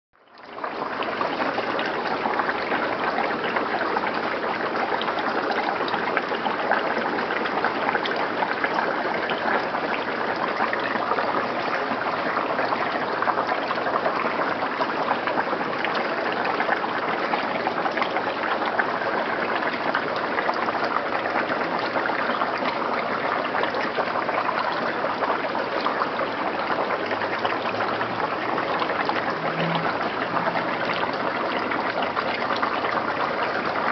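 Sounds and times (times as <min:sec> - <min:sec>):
running water trickling: 0:00.2 - 0:33.9.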